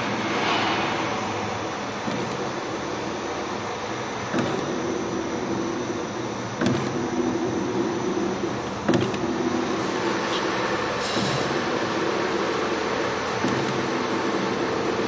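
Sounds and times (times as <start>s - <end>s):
machine mechanical hum: 0.0s - 15.0s.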